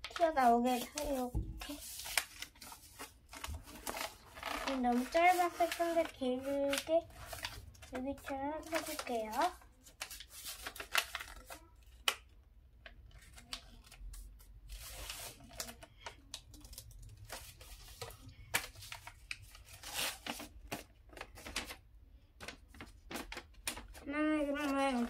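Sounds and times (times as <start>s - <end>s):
paper fold crackles: 0.0s - 21.8s, 22.4s - 25.0s
paper rustling and crinkling: 0.0s - 25.0s.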